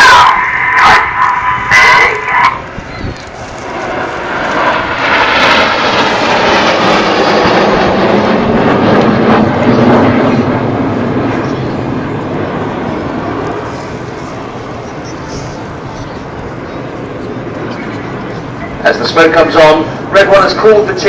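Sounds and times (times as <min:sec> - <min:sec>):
jets flying past: 0:00.0 - 0:21.0.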